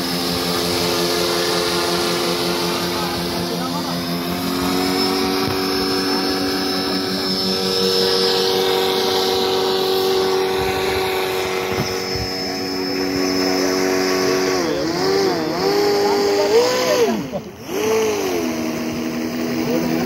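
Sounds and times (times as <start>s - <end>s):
model boat propeller motor running: 0.0s - 20.0s.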